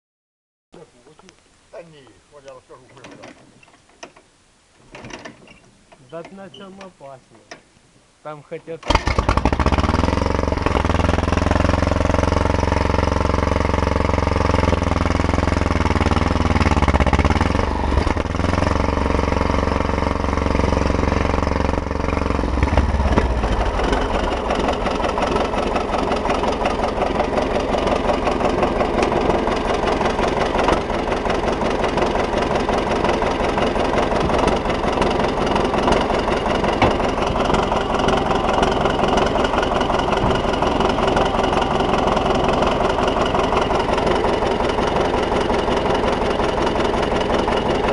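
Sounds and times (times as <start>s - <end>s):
bulldozer engine starting and running: 8.8s - 47.9s.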